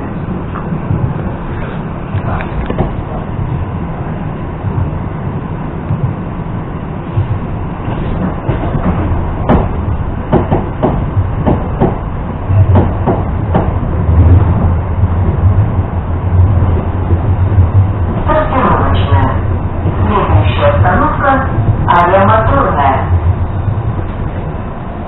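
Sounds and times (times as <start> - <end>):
train cabin rumble and hum: 0.0 - 25.0.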